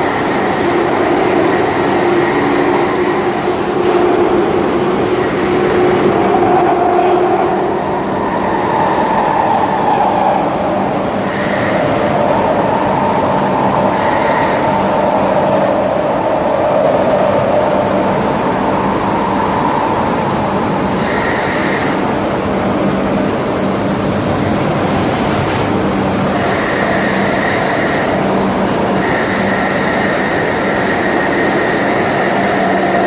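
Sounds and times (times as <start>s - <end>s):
underground train rumble and wheel noise: 0.0s - 33.0s.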